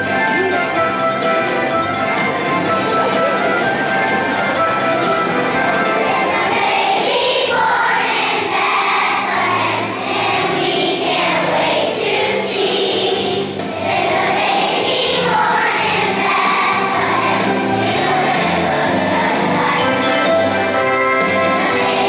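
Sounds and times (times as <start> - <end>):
children's choir singing: 0.0 - 22.0
instrumental accompaniment: 0.0 - 22.0.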